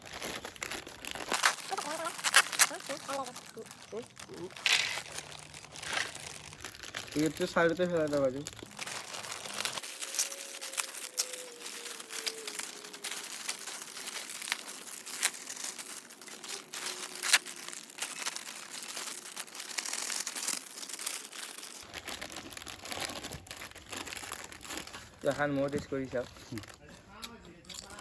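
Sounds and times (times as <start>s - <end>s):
chips crackling and rattling: 0.0s - 28.0s
foil chip packets crinkling: 0.0s - 28.0s.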